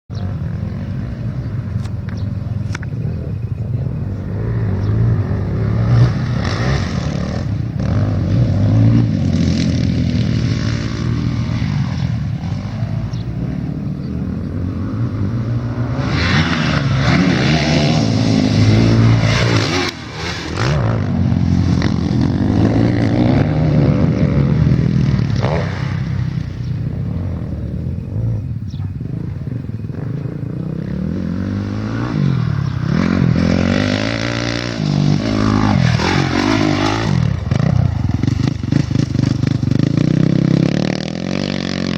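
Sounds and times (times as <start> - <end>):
motocross motorcycle engine revving: 3.7 - 41.9.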